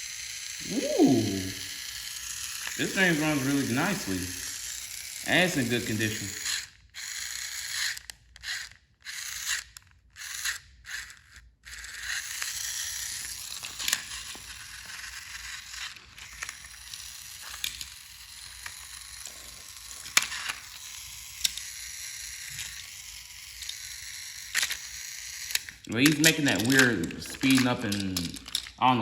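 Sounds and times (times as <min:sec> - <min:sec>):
toy train motor whirring: 0:00.0 - 0:28.8.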